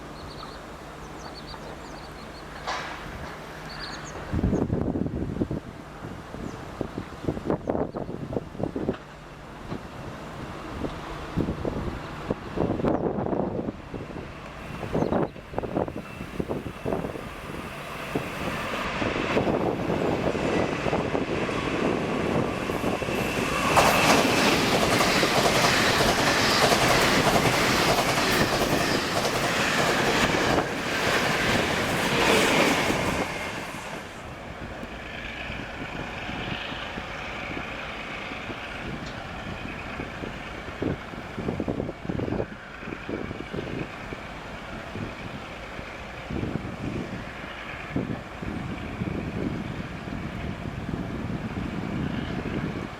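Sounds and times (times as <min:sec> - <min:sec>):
train passing close by: 0:00.0 - 0:52.9.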